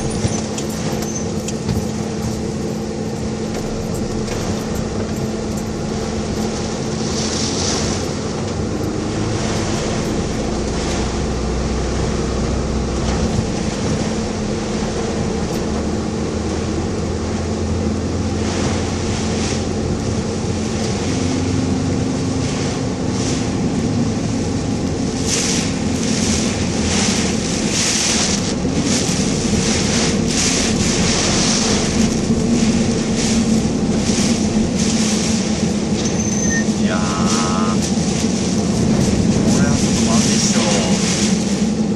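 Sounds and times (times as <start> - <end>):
car engine and road drone: 0.0 - 41.9
storm wind buffeting car: 0.0 - 41.9.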